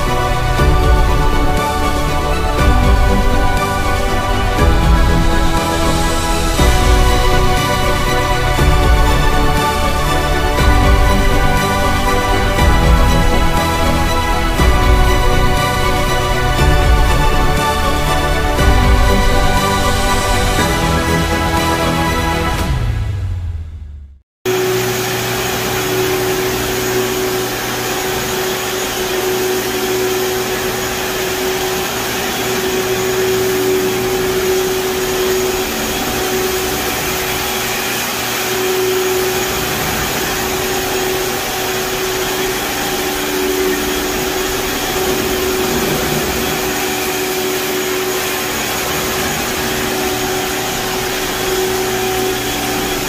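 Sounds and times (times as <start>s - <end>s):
floor scrubber motor whine: 0.0s - 23.2s, 24.5s - 53.0s
wide rushing noise: 0.0s - 23.6s, 24.5s - 53.0s.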